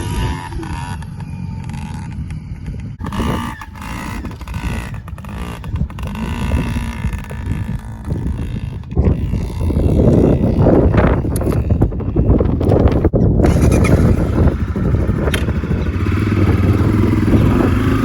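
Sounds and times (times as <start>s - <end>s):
small dirt bike engine revving: 0.0s - 18.0s.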